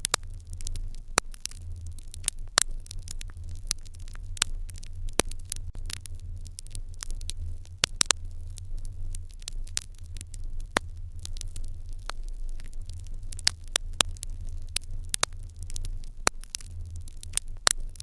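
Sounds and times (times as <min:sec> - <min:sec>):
steady low hum: 0:00.0 - 0:18.0
wood fire crackling and popping: 0:00.0 - 0:18.0.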